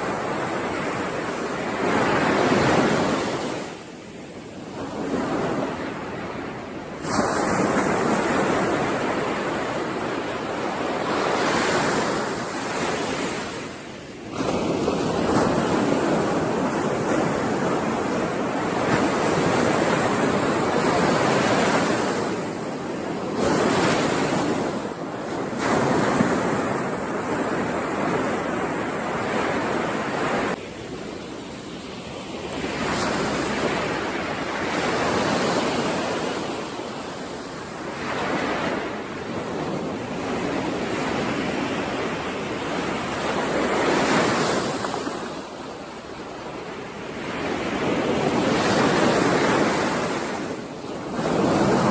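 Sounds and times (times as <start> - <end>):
ocean waves washing ashore: 0.0 - 51.9.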